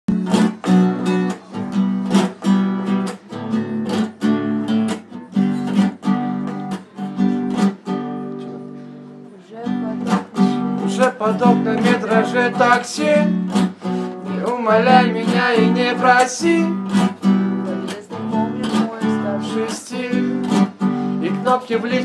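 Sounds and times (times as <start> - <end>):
acoustic guitar strumming: 0.1 - 22.0.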